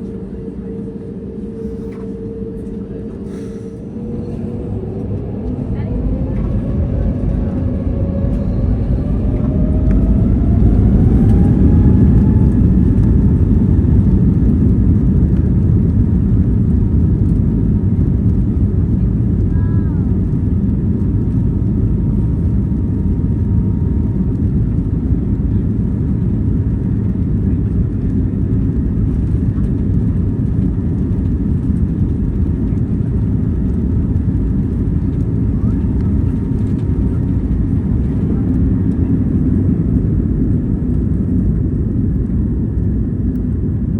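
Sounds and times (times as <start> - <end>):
jet engines from inside cabin: 0.0 - 43.9.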